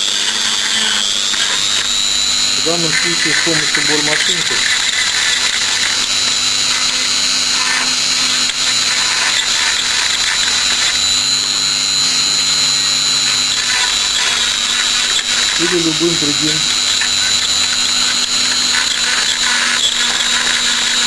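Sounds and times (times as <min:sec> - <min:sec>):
rotary tool whining: 0:00.0 - 0:21.0.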